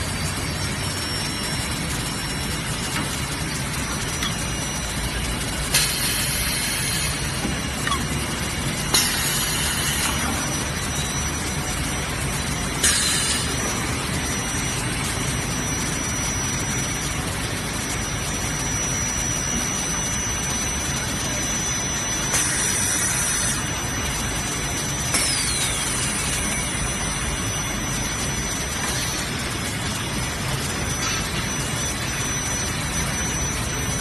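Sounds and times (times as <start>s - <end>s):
cable coiling machine running: 0.0s - 34.0s
factory machinery noise: 0.0s - 34.0s.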